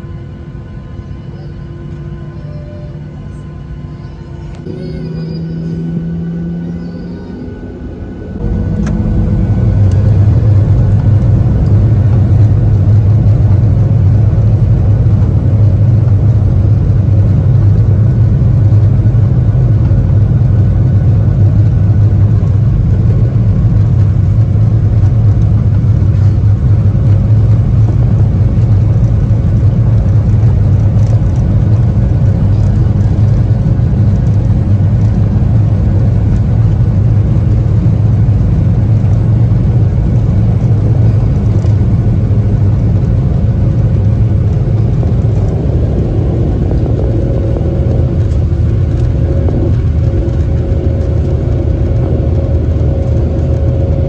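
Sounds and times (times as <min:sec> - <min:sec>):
jet engines low rumble: 0:00.0 - 0:54.0.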